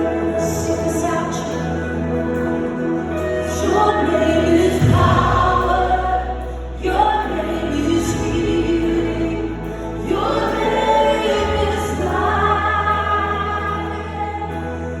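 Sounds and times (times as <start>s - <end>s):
choir singing gospel song: 0.0s - 15.0s
low bass line: 0.0s - 15.0s.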